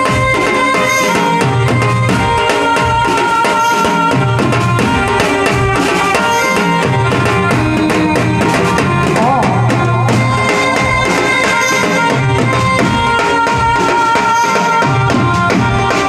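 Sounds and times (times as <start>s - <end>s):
amplified folk music: 0.0s - 16.0s
tabla and drum beat: 0.0s - 16.0s
wavering melody line: 0.0s - 16.0s.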